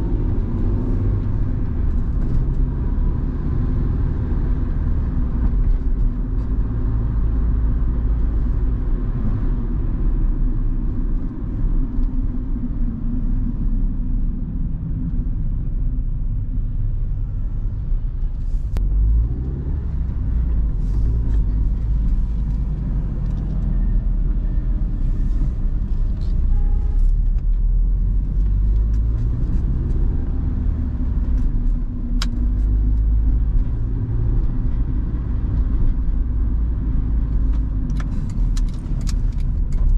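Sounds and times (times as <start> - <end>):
car engine: 0.0 - 39.9
road rumble inside car: 0.0 - 39.9.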